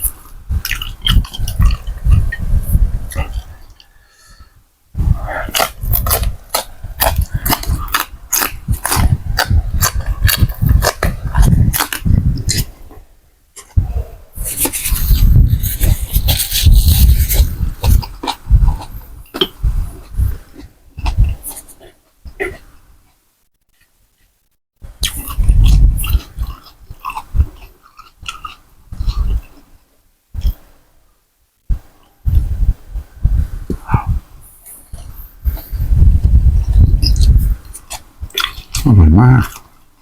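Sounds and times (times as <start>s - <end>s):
slurping and chewing noodles: 0.0s - 4.4s, 5.0s - 22.8s, 24.8s - 29.8s, 33.8s - 40.0s.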